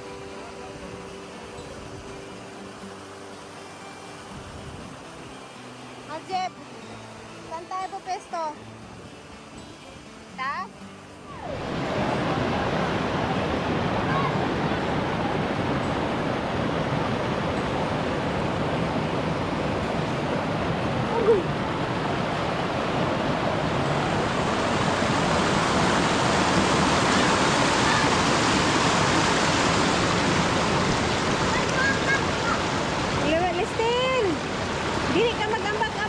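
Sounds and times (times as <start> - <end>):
stream flowing over rocks: 0.0 - 36.0.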